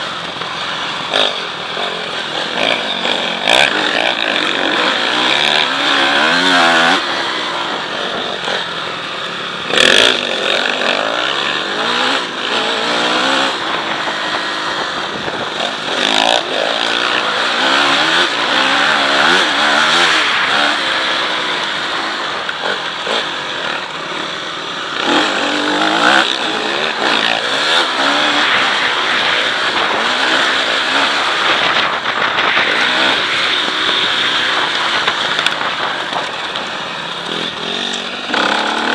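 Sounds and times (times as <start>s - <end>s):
motocross bike engine revving: 0.0s - 38.9s
rushing noise: 0.0s - 38.9s.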